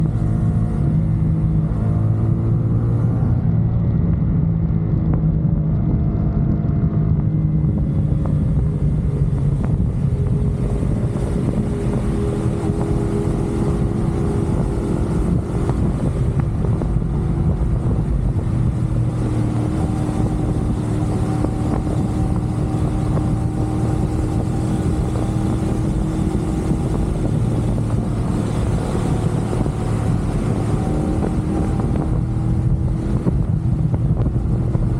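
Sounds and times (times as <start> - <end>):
motorcycle engine running: 0.0 - 34.9
road noise: 0.0 - 34.9
wind noise on microphone: 0.0 - 34.9.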